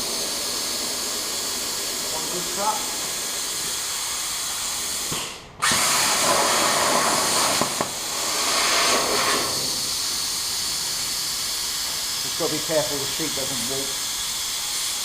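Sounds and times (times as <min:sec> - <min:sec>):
plasma cutter torch hissing: 0:00.0 - 0:15.0.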